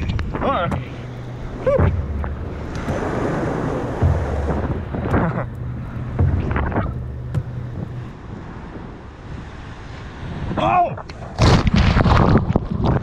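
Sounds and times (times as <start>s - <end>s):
sea waves breaking over rocks: 0.0s - 13.0s
wind buffeting microphone: 0.0s - 13.0s.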